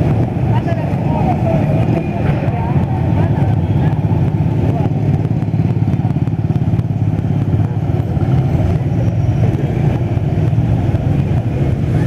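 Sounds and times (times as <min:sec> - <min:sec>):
street traffic with motorcycles: 0:00.0 - 0:12.0.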